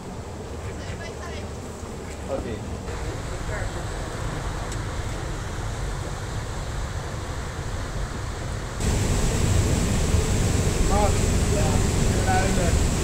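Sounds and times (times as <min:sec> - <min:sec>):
wind buffeting microphone: 0:01.9 - 0:13.0.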